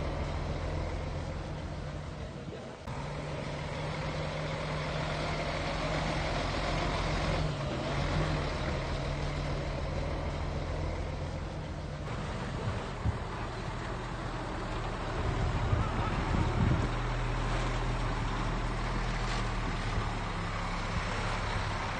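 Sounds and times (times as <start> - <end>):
low diesel engine drone: 0.0 - 21.9.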